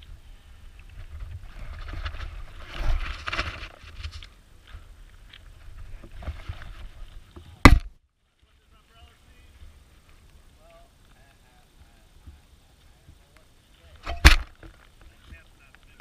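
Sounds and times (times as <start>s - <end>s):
close rustling: 0.0s - 16.0s.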